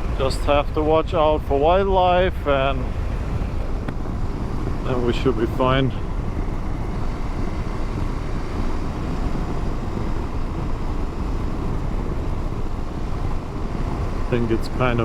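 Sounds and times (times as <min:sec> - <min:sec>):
motorcycle engine: 0:00.0 - 0:15.0
wind noise: 0:00.0 - 0:15.0.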